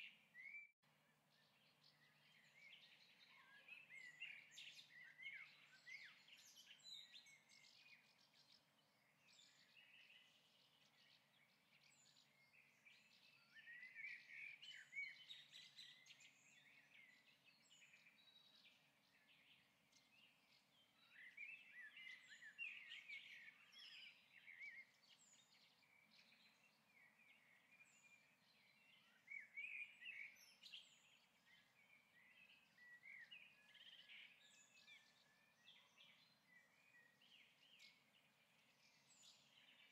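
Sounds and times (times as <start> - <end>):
birds chirping and singing: 1.2 - 39.9.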